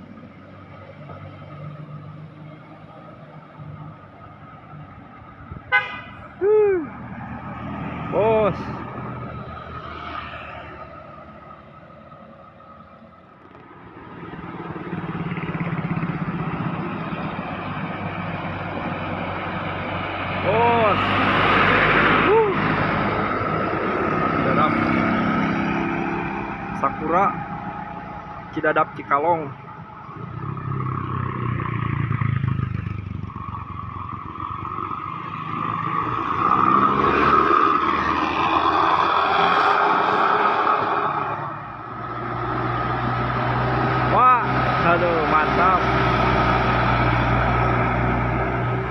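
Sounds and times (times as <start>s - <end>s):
traffic noise: 0.0s - 48.9s
vehicle engine approaching: 0.0s - 48.9s.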